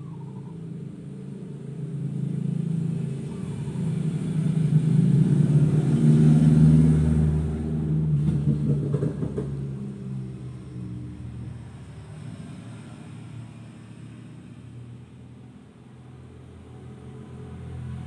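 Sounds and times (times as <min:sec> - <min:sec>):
passing vehicle engine rumble: 0:00.0 - 0:18.0.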